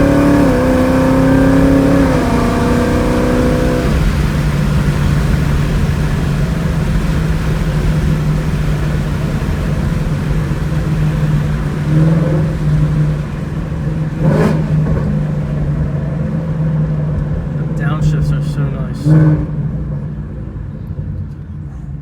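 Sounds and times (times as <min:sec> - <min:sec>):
car exhaust drone: 0:00.0 - 0:22.0.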